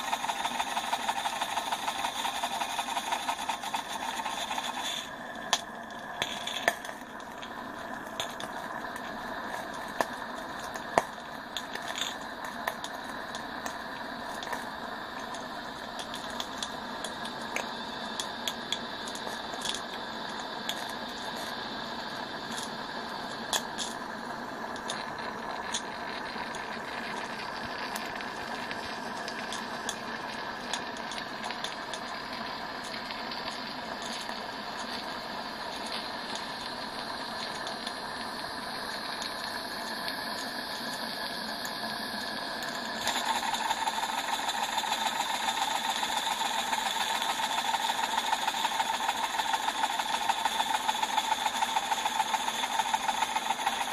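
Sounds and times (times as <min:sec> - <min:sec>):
sharp clicks and crackles: 0:00.0 - 0:53.9
steam hissing: 0:00.0 - 0:53.9.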